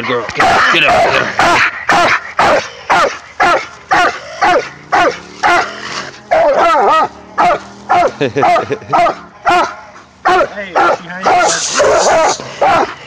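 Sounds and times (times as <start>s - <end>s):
dog bawling: 0.0s - 13.0s
dog barking: 0.4s - 13.0s.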